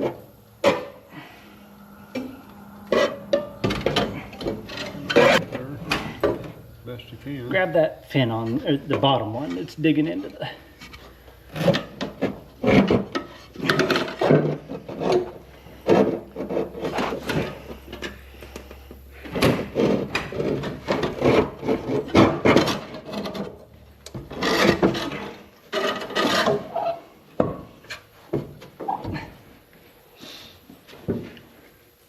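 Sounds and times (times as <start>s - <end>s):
metal scraping and knocking: 0.0s - 1.3s, 2.0s - 6.8s, 7.5s - 29.4s.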